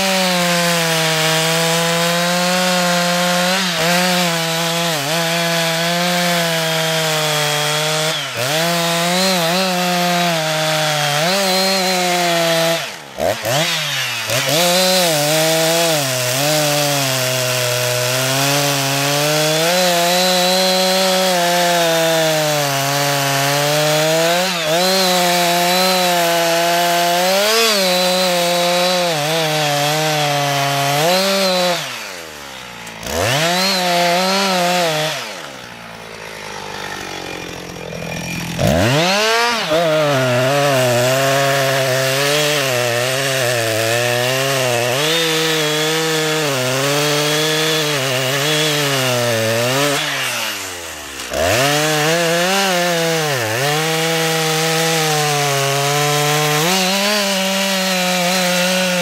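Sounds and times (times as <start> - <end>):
chainsaw cutting tree trunk: 0.0 - 59.0.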